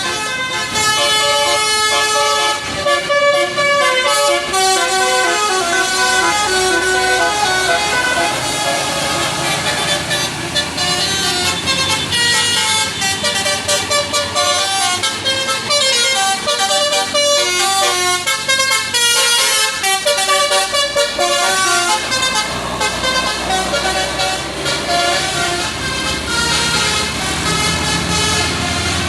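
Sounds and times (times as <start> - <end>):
musical bus air horn: 0.0 - 29.0.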